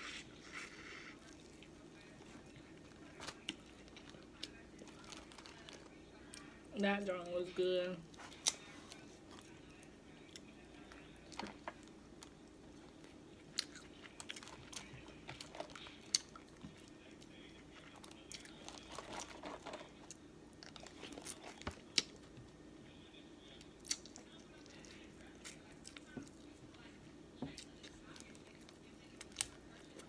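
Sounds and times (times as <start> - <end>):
chewing and smacking: 0.0 - 6.6, 8.1 - 22.5, 23.7 - 26.9, 27.5 - 30.0.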